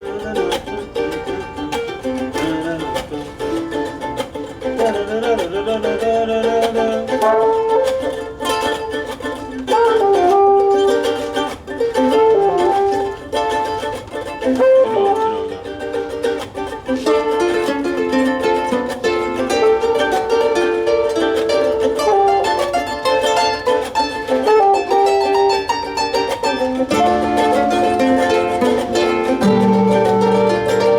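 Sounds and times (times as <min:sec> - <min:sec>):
plucked string instrument music: 0:00.0 - 0:30.9.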